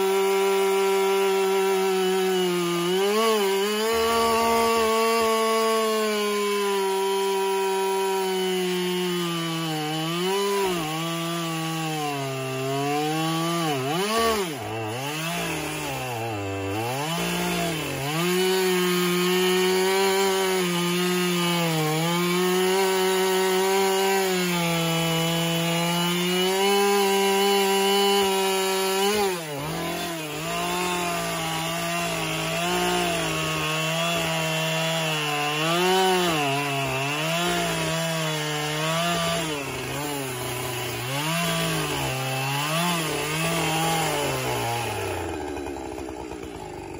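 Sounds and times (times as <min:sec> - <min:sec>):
chainsaw cutting log: 0:00.0 - 0:46.9.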